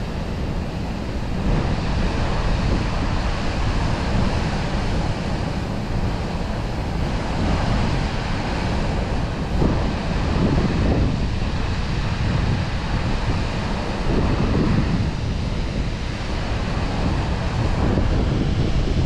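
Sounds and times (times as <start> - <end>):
fast-flowing water: 0.0 - 19.0
wind buffeting the microphone: 0.0 - 19.0.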